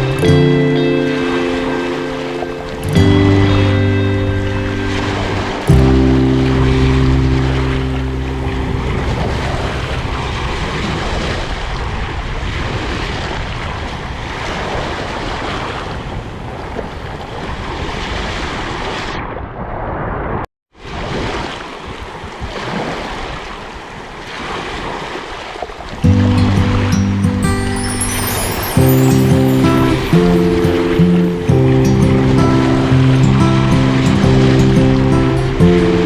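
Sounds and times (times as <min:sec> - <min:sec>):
sea waves breaking on shore: 0:00.0 - 0:19.2, 0:20.8 - 0:36.0.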